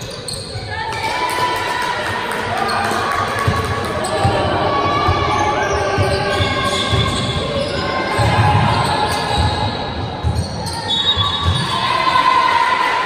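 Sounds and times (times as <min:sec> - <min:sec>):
basketball bouncing in a hall: 0:00.0 - 0:13.0.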